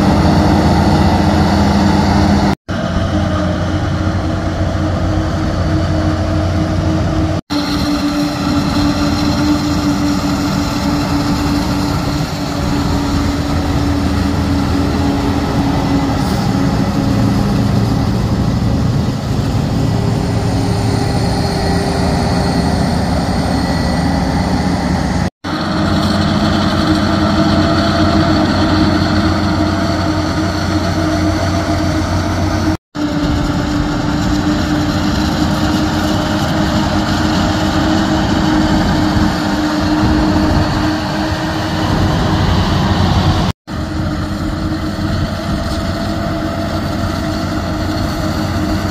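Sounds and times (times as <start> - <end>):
chopper and crop rushing: 0.0 - 48.9
diesel engine drone: 0.0 - 48.9.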